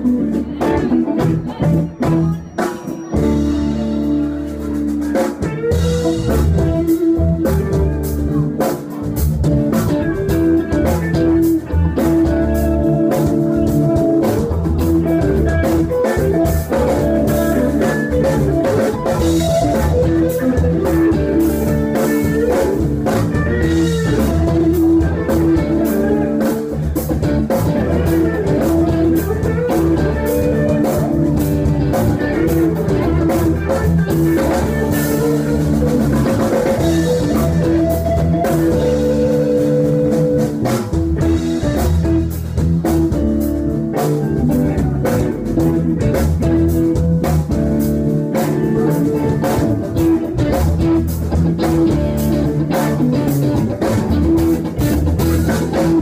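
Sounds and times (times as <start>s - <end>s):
bass guitar: 0.0s - 56.0s
drum kit steady beat: 0.0s - 56.0s
electric guitar riff: 0.0s - 56.0s.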